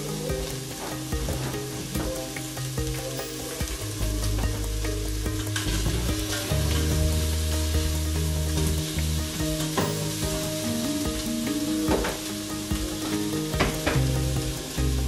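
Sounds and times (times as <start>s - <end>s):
food sizzling in oil: 0.0s - 15.0s
low musical notes: 0.0s - 15.0s.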